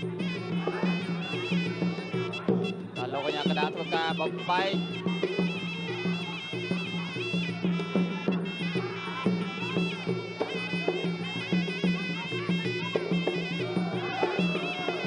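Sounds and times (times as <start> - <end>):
drum beats: 0.0 - 15.0
reed oboe melody: 0.0 - 15.0.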